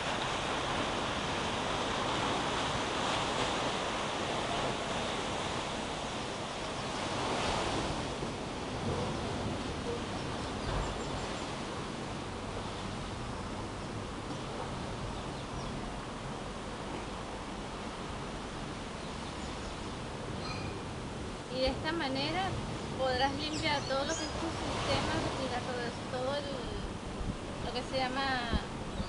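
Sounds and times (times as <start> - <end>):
surf: 0.0 - 29.0.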